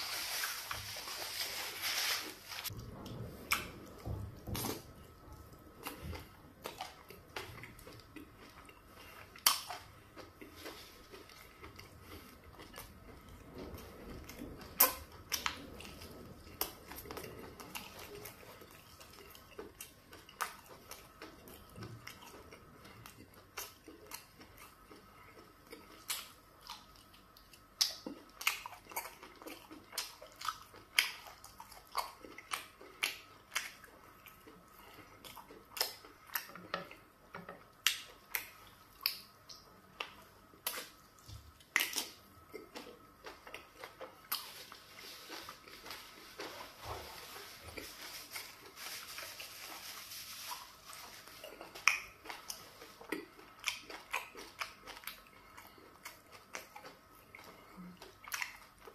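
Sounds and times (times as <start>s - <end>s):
person chewing meat: 2.7s - 58.9s.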